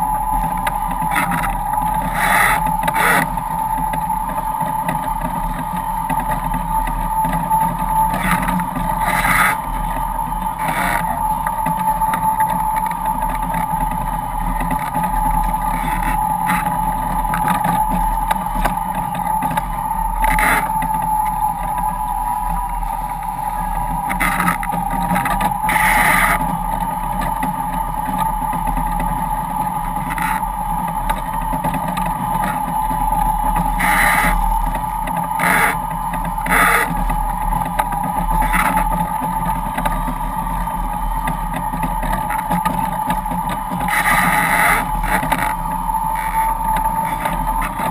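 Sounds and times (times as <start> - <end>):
hydrofoil hum: 0.0 - 47.9
wind: 0.0 - 47.9.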